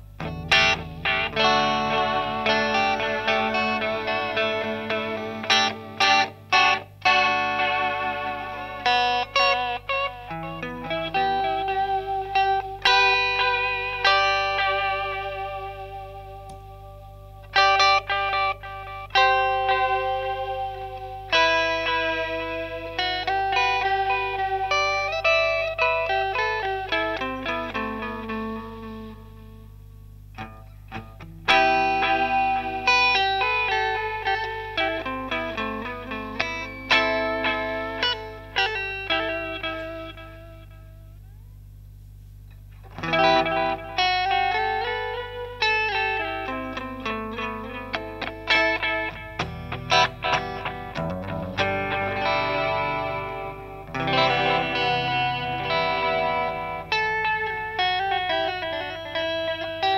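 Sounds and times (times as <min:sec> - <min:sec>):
electric guitar with delay effect: 0:00.0 - 0:59.9.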